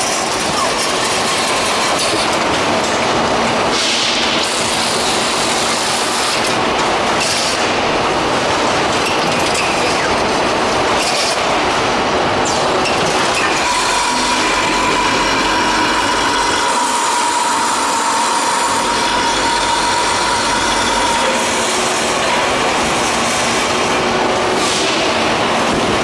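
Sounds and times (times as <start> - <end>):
machine whine: 0.0 - 26.0
machinery rattle and rumble: 0.0 - 26.0.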